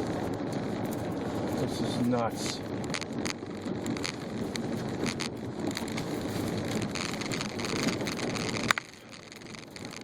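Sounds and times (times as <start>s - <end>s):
engine and tyres rumbling: 0.0s - 10.0s.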